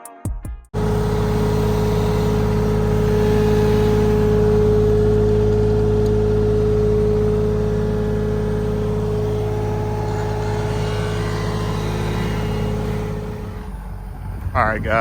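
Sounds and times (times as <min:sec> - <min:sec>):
diesel engine running: 0:00.8 - 0:15.0.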